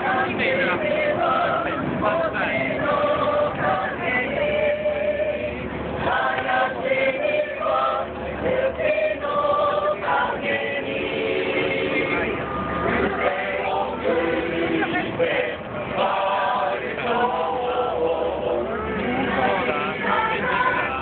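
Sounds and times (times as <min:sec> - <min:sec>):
group of voices singing: 0:00.0 - 0:21.0.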